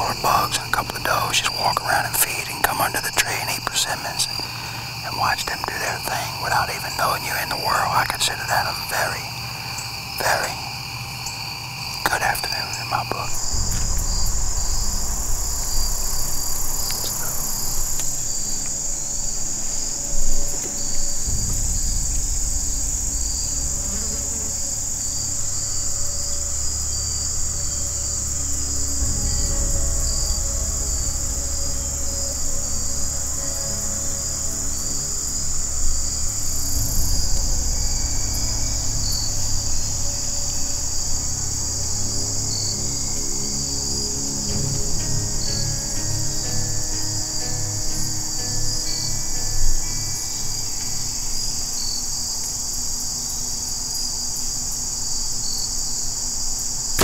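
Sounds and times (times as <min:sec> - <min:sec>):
insect pulsing trill: 0:00.0 - 0:57.0
insects buzzing: 0:00.0 - 0:57.0.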